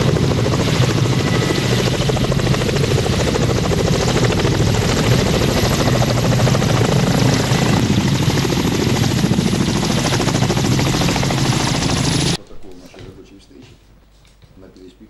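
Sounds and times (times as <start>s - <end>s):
helicopter rotor chop: 0.0s - 12.7s.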